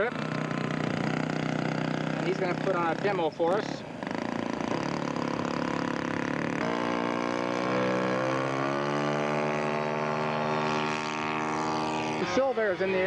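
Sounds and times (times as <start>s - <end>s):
model plane engine and propeller: 0.0s - 13.0s.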